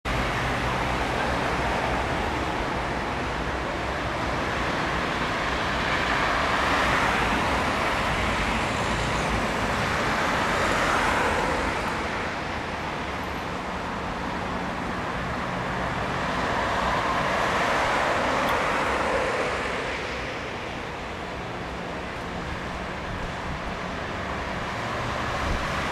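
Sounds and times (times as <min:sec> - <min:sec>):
cars driving past: 0:00.1 - 0:25.9.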